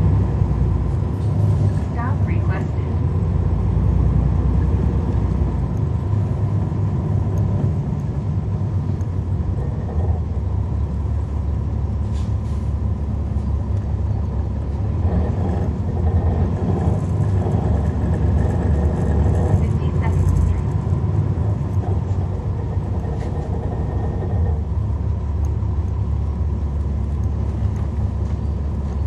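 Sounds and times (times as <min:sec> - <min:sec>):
diesel bus engine rumble: 0:00.0 - 0:29.0.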